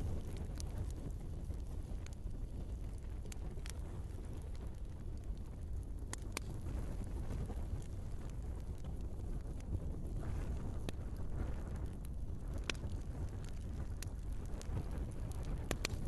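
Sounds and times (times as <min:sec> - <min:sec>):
burning logs crackling and popping: 0:00.0 - 0:16.0
fire flames rumbling: 0:00.0 - 0:16.0.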